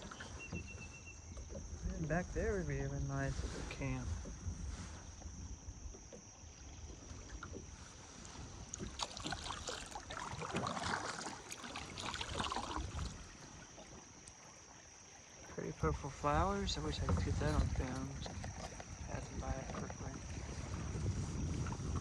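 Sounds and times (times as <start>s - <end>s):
paddle strokes splashing: 0.0s - 22.0s
river water: 0.0s - 22.0s.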